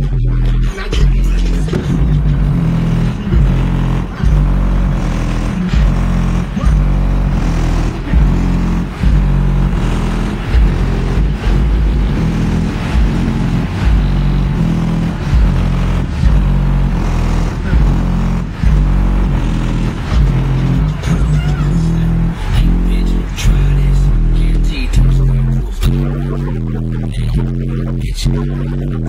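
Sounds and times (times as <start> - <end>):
bass-heavy rap music: 0.0 - 29.0
deep subwoofer bass notes: 0.0 - 29.0.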